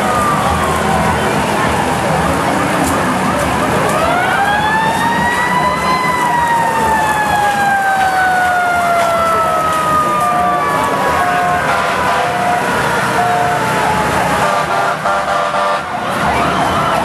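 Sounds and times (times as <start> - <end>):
emergency siren: 0.0 - 17.0.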